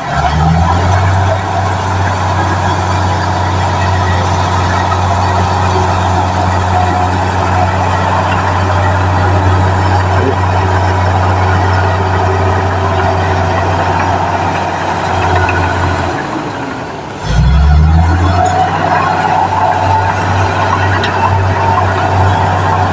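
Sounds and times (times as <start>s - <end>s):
heavy vehicle engine running: 0.0s - 22.9s.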